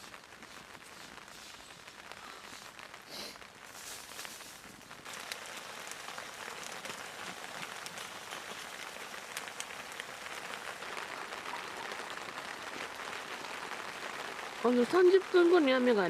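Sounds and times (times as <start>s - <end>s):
rain drops ticking on surface: 0.0s - 16.0s.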